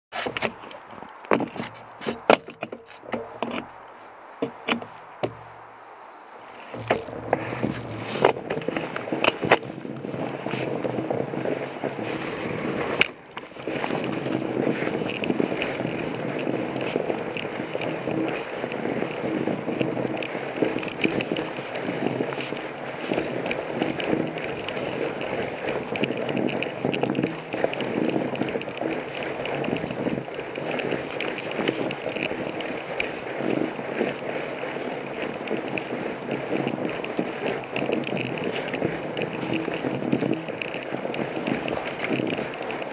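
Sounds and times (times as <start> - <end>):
knocks and clicks over bumps: 0.1 - 3.8, 4.4 - 5.7, 6.5 - 42.9
studded tire rolling on snow: 0.1 - 42.9.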